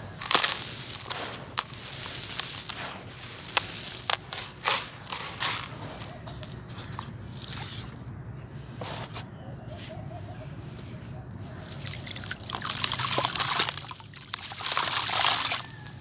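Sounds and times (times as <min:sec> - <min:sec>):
hands crunching dry dirt: 0:00.0 - 0:16.0.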